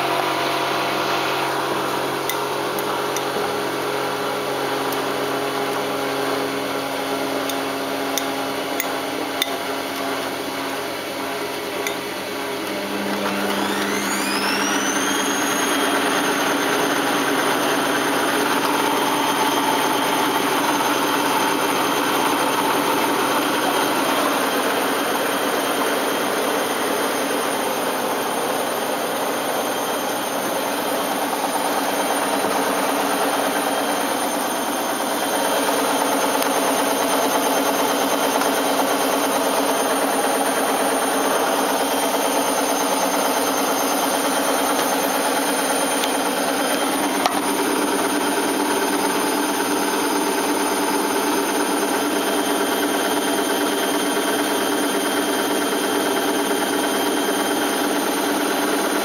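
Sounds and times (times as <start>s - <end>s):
washing machine spin whine: 0.0s - 59.0s.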